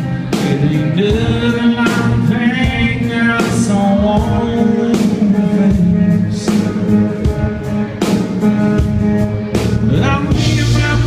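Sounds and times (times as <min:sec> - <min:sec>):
man singing: 0:00.0 - 0:07.8, 0:09.7 - 0:11.0
drums: 0:00.0 - 0:11.0
guitars: 0:00.0 - 0:11.0.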